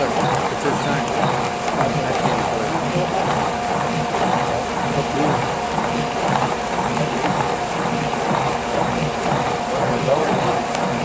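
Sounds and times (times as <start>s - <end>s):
electric paddle mixer humming: 0.0s - 11.0s.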